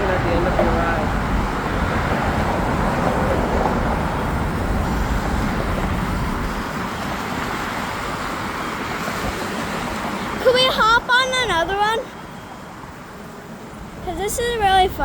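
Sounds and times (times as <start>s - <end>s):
wind rumble: 0.0s - 12.0s, 13.6s - 15.0s
street traffic noise: 0.0s - 15.0s.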